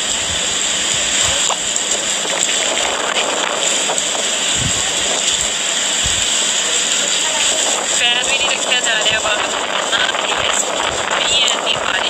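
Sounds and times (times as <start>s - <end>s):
wind and driving rain: 0.0s - 12.0s
wind buffeting microphone: 0.0s - 12.0s.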